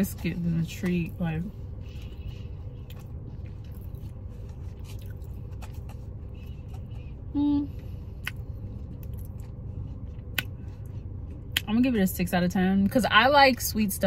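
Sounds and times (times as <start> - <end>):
car interior rumble: 0.0 - 14.0
closed-mouth hum: 0.0 - 14.0.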